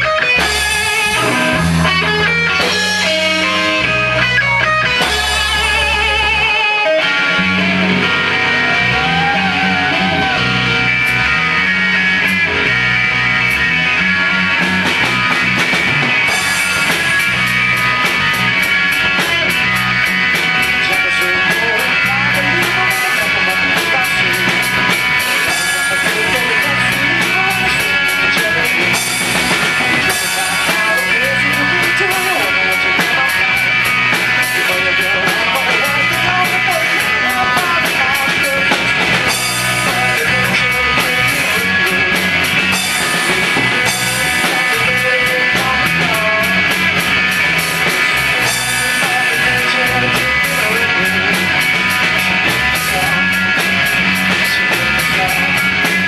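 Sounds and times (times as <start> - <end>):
electric guitar: 0.0 - 56.0
rock band playing: 0.0 - 56.0.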